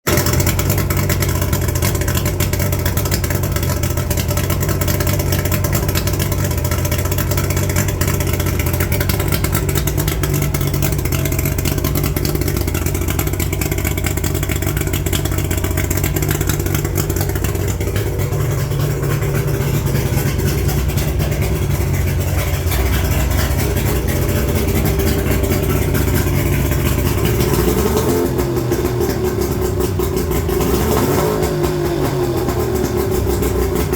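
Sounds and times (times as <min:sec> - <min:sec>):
outboard motor running: 0:00.0 - 0:33.9.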